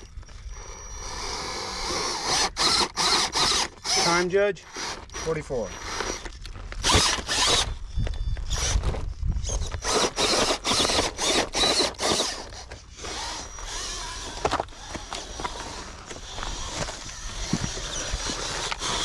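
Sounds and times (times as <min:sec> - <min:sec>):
electric motor whirring in bursts: 0:00.0 - 0:19.0.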